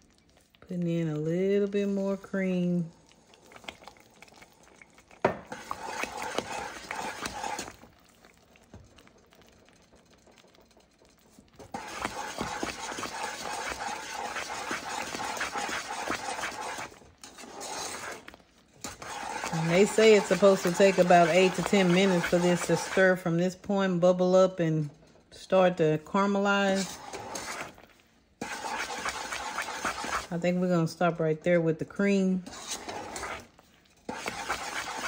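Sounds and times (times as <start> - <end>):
wooden spatula scraping a pan: 5.2 - 35.0.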